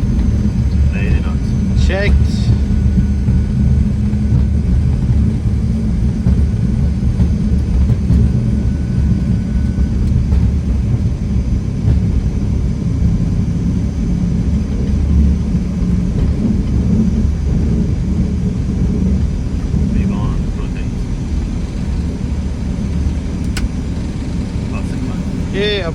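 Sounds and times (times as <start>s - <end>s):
jet airliner takeoff roll rumble: 0.0s - 25.9s.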